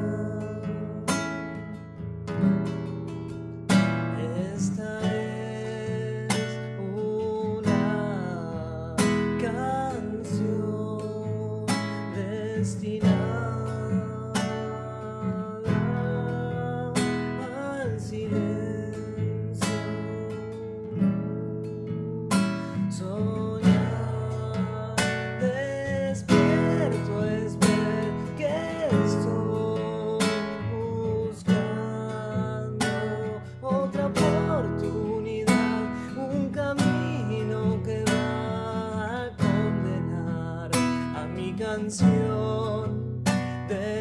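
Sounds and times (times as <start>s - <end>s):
person singing: 0.0s - 1.6s, 4.1s - 44.0s
acoustic guitar strumming chords: 0.0s - 44.0s.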